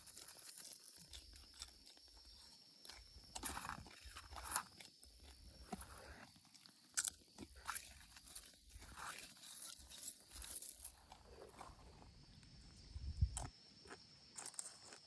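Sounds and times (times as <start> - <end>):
irregular crunching: 0.0 - 15.0.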